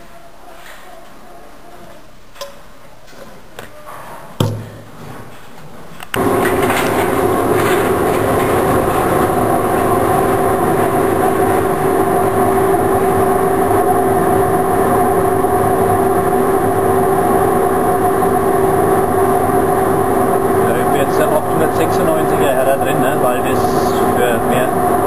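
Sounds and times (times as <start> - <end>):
extraction fan humming: 4.3 - 25.0.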